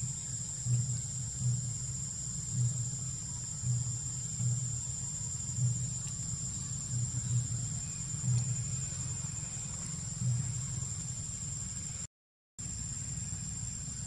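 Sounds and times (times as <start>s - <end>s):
soft low rumbles: 0.0s - 12.0s
insect chorus drone: 0.0s - 14.0s.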